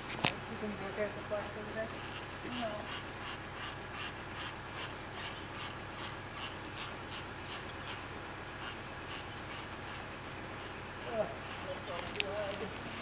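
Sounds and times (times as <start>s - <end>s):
brush rubbing over horse coat: 2.0s - 8.0s, 8.6s - 13.0s.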